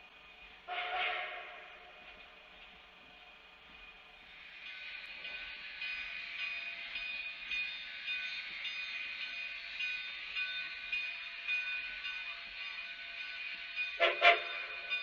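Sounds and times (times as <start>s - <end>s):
train wheels clattering over rails: 0.7s - 15.0s.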